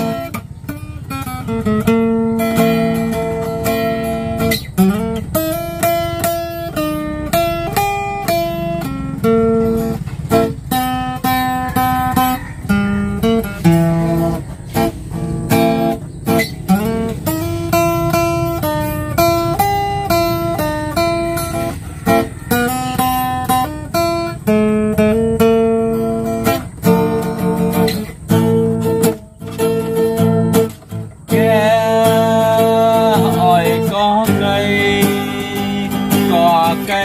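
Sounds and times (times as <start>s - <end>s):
acoustic guitar picking and strumming: 0.0s - 37.0s.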